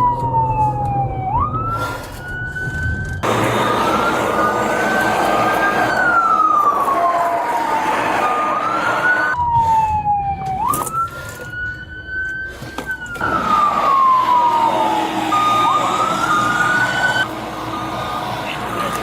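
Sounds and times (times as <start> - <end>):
low vehicle rumble: 0.0 - 19.0
police siren wailing: 0.0 - 19.0.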